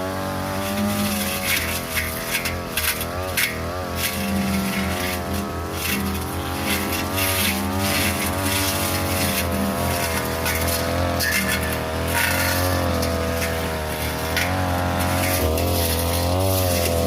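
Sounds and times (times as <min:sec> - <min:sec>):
blade cutting grass and brush: 0:00.0 - 0:17.0
brush cutter engine at high speed: 0:00.0 - 0:17.0.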